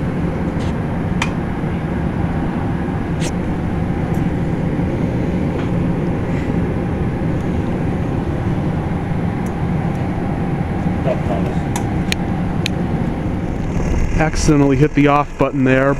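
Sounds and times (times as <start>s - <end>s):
heat pump unit droning: 0.0s - 15.9s.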